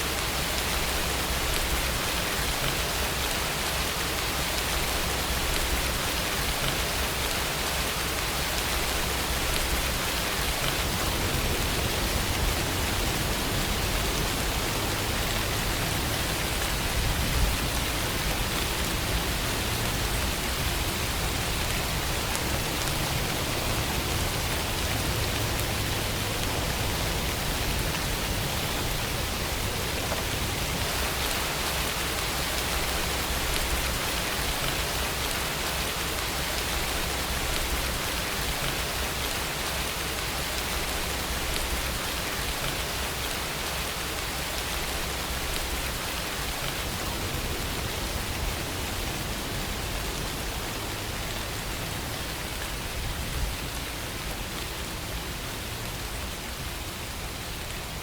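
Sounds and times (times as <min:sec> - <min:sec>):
rain falling on surfaces: 0:00.0 - 0:58.0.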